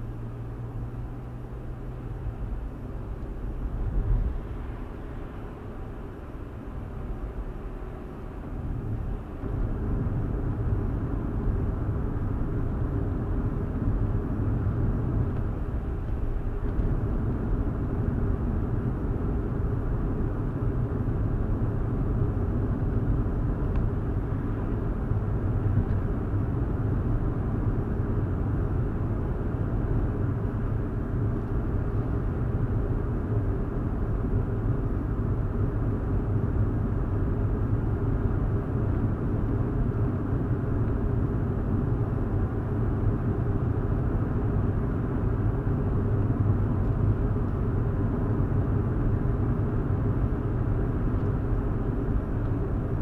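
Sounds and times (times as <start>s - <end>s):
car engine and tyre rumble: 0.0s - 53.0s.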